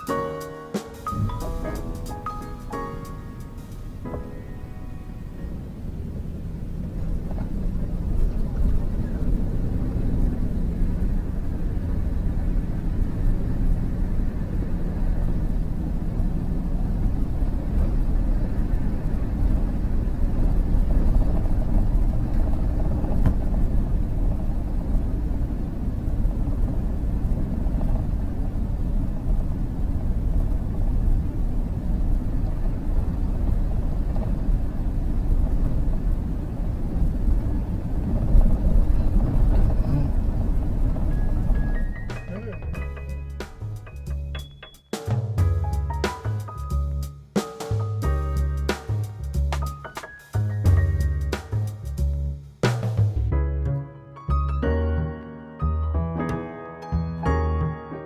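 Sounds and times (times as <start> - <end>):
van driving rumble: 0.0 - 56.0.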